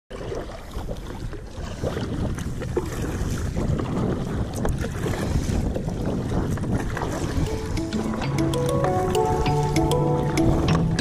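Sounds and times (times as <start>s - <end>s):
paddle splashing and dripping: 0.1s - 11.0s
wind rumbling on microphone: 0.3s - 11.0s.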